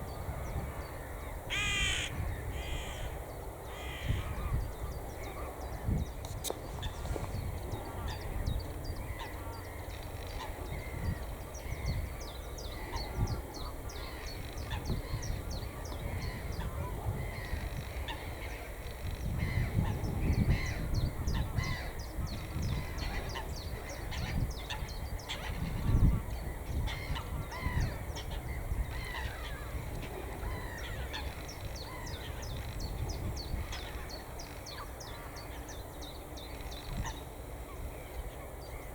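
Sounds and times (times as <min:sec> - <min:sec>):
wild birds calling: 0:00.1 - 0:38.9.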